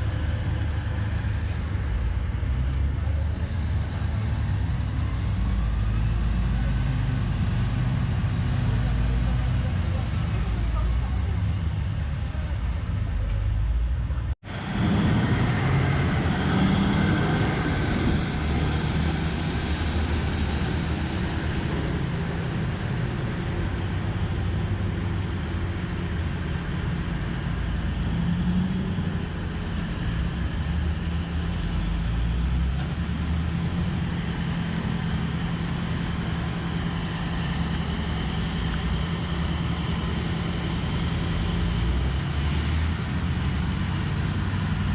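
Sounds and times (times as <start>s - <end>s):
large diesel engine rumbling: 0.0s - 44.9s.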